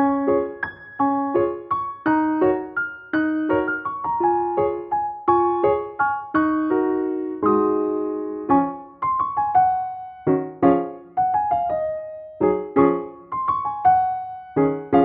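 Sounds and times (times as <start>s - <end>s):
light piano tune: 0.0s - 15.0s.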